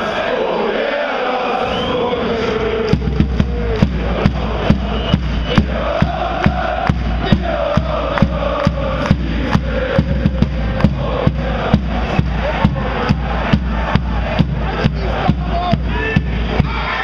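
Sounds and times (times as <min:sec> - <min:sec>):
crowd chanting in unison: 0:00.0 - 0:17.0
big drum beating: 0:02.9 - 0:17.0.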